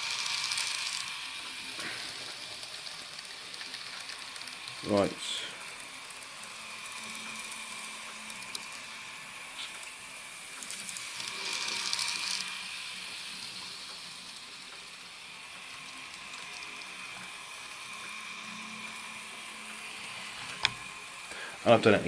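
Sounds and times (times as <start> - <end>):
model train motor whine: 0.0 - 22.0.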